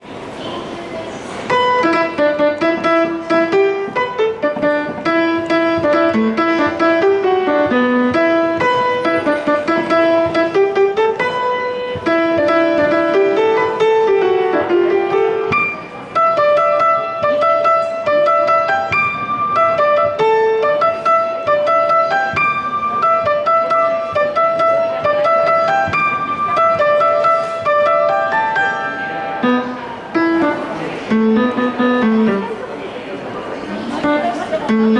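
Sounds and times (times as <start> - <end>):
piano playing upbeat pop tune: 1.4 - 34.9.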